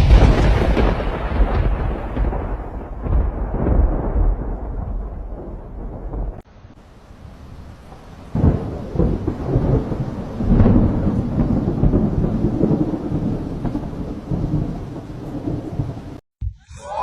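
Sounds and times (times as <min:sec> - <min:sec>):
thunder crack and rumble: 0:00.0 - 0:06.5, 0:07.8 - 0:16.2.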